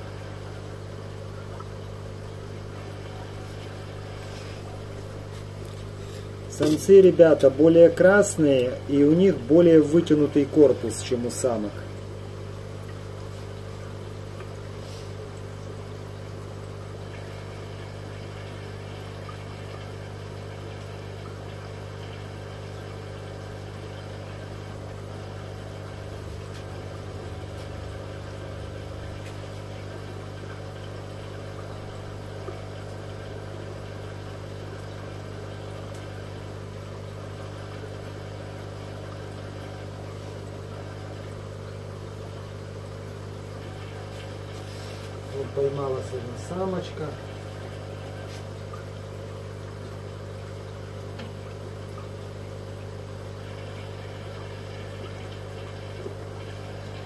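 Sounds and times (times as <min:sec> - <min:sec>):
aquarium air pump humming: 0:00.0 - 0:57.0.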